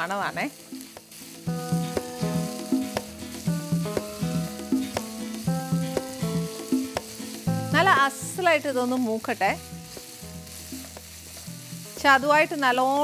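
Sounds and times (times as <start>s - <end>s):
vegetables sizzling in oil: 0.0s - 13.0s
background music with bass: 0.6s - 12.5s.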